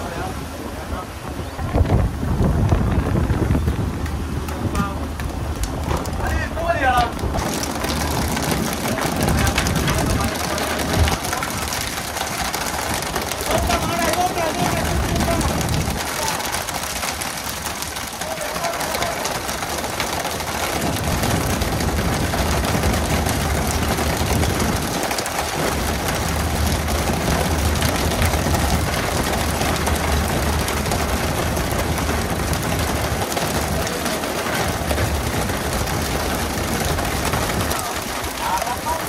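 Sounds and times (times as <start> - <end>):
boat engine humming: 0.0 - 39.0
water rushing along hull: 0.0 - 39.0
fish flapping on deck: 1.8 - 39.0.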